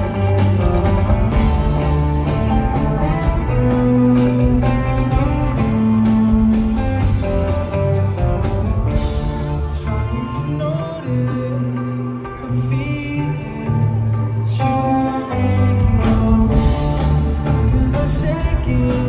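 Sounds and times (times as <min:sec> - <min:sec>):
bass guitar: 0:00.0 - 0:19.0
electric guitar notes: 0:00.0 - 0:19.0.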